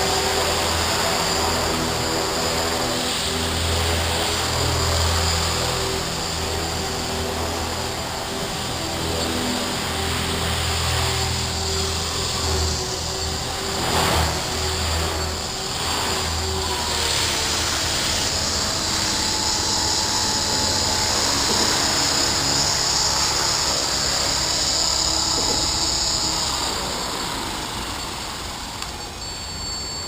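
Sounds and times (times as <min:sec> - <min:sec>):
rc helicopter motor whine: 0:00.0 - 0:30.0
rotor noise: 0:00.0 - 0:30.0.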